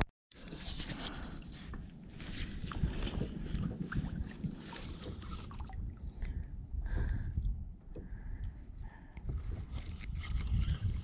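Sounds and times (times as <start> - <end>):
water lapping against kayak hull: 0.3 - 11.0
wind gusting on microphone: 0.4 - 11.0.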